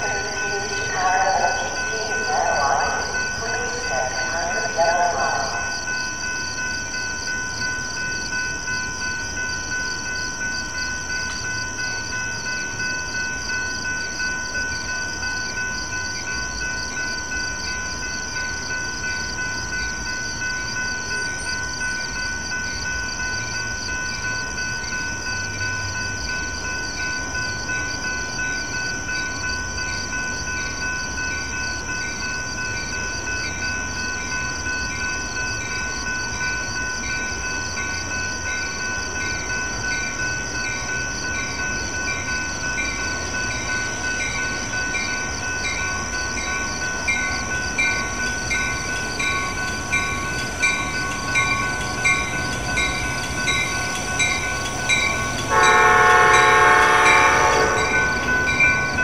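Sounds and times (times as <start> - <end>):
distant train rumble: 0.0 - 59.0.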